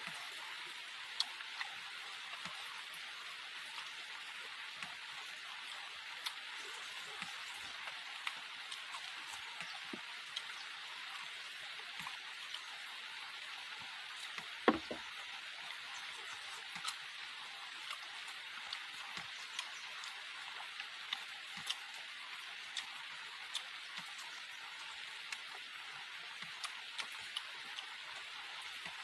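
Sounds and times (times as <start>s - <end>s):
rain hissing: 0.0s - 28.9s
small drips and clicks: 0.0s - 29.0s.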